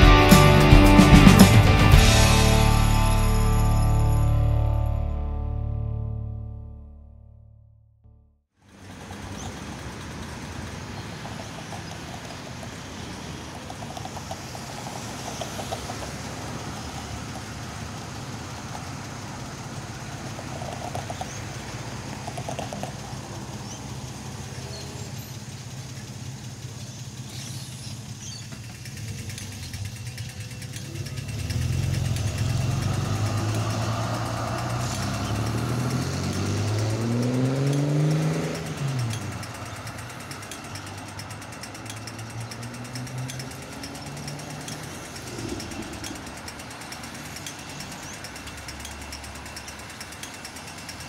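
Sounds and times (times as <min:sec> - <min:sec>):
street traffic hum: 0:00.0 - 0:05.2, 0:08.6 - 0:51.0
vehicle accelerating: 0:00.0 - 0:06.8, 0:08.7 - 0:51.0.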